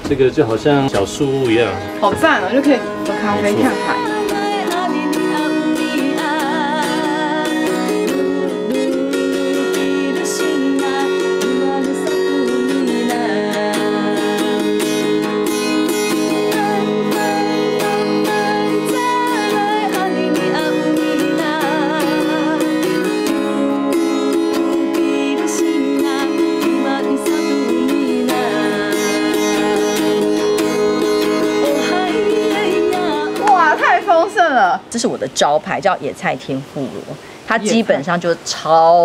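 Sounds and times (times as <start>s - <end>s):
plucked acoustic string melody: 0.0s - 35.8s, 37.4s - 38.6s
wavering held melody line: 1.4s - 35.0s.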